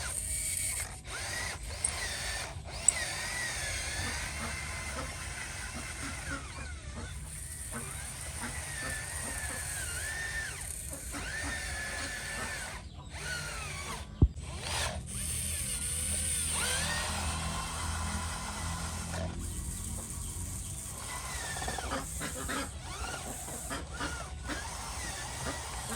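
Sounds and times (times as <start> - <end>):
small electric motors whining: 0.0 - 25.9.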